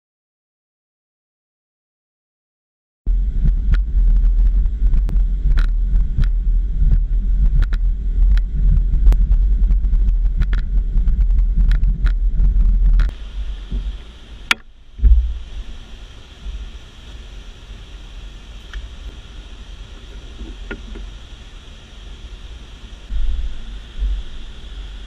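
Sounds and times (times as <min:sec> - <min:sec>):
outboard motor rumble: 0:03.1 - 0:25.0
wind on microphone: 0:03.1 - 0:25.0
rush of water: 0:03.3 - 0:25.0.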